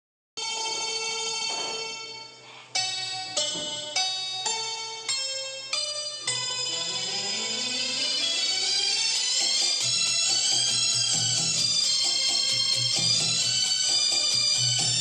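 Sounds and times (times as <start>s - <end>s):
bell-like ringing notes: 0.4s - 15.0s
held chord: 0.4s - 15.0s.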